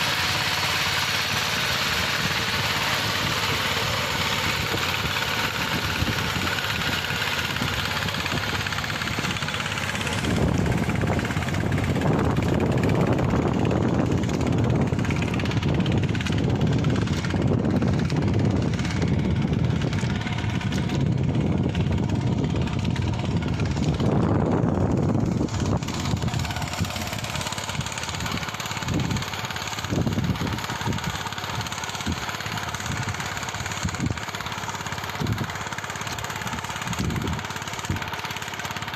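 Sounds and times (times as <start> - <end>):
farm machine engine running: 0.0 - 38.9.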